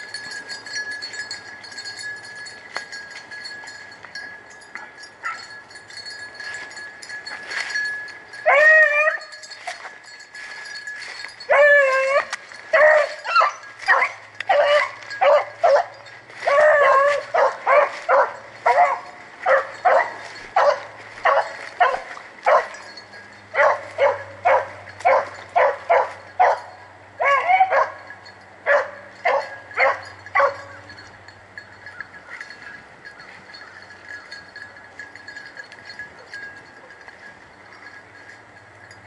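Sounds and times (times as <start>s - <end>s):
hounds barking and yipping: 4.7s - 5.6s, 6.4s - 39.0s.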